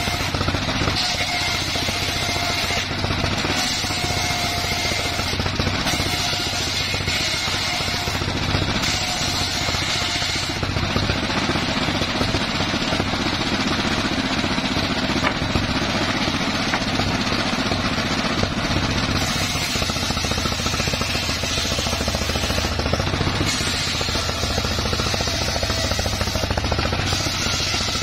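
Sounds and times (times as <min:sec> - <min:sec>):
circular saw ripping wood: 0:00.0 - 0:28.0
engine droning: 0:00.0 - 0:28.0.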